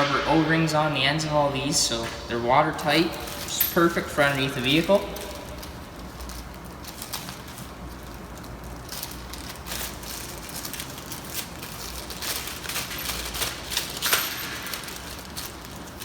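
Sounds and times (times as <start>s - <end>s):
steady low hum: 0.0s - 16.0s
plastic packaging crinkling: 2.8s - 16.0s.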